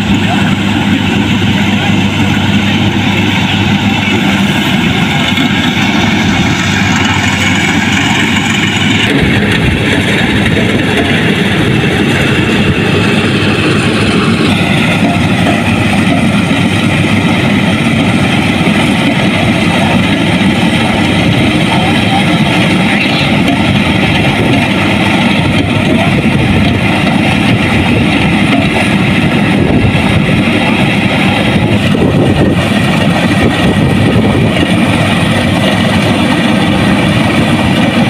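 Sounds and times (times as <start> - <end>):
harvester engine running: 0.0 - 38.0.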